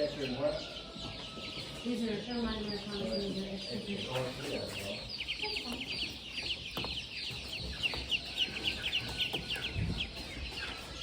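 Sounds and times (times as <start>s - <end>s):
chickens clucking: 0.0s - 11.0s
chickens peeping: 0.0s - 11.0s.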